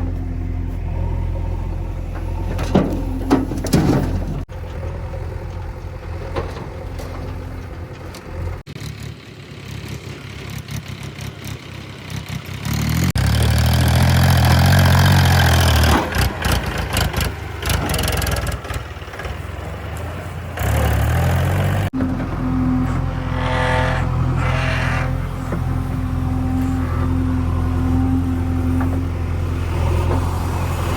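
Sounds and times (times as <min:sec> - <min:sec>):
diesel engines revving: 0:00.0 - 0:30.9.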